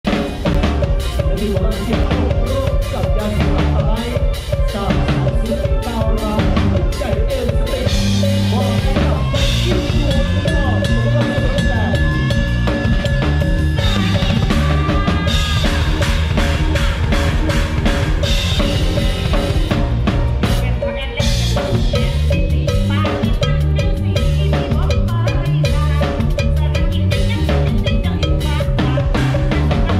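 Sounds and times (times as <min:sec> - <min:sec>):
drum kit played hard: 0:00.0 - 0:29.9
live band playing: 0:00.0 - 0:29.9.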